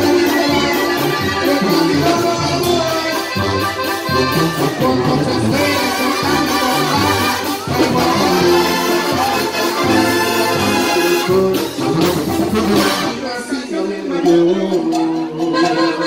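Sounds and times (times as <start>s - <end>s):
brass band music with tuba: 0.0s - 16.0s.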